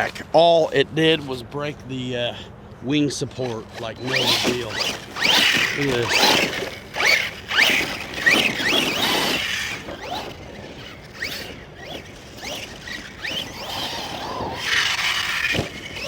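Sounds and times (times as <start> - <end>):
toy truck electric motor whining: 0.0 - 0.6, 3.2 - 16.0.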